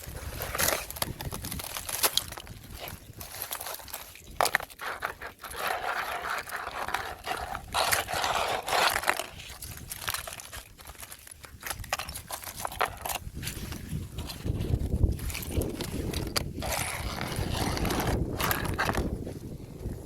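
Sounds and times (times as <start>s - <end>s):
ice cracking and crunching: 0.0s - 19.2s.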